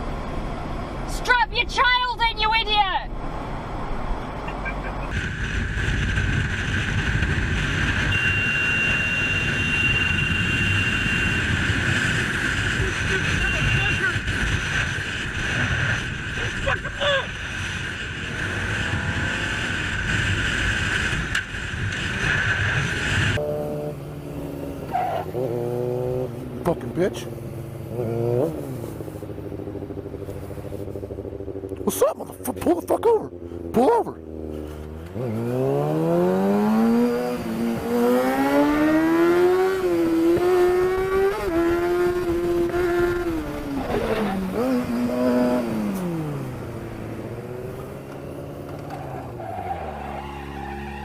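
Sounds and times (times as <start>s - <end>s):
car road and wind noise: 0.0s - 51.0s
vehicle engine accelerating: 3.2s - 51.0s.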